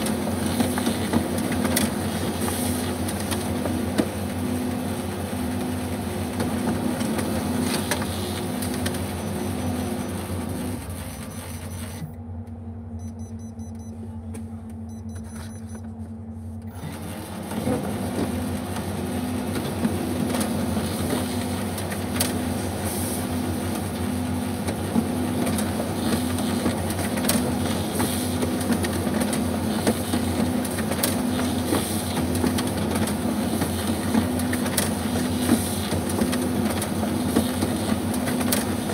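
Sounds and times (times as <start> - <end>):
laser printer feeding paper: 0.0 - 12.1, 16.7 - 38.9.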